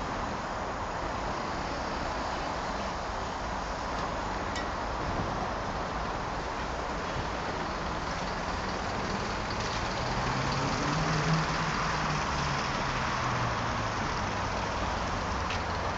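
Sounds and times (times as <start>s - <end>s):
hum of passing vehicles: 0.0s - 15.9s
vehicle engine: 0.0s - 15.9s.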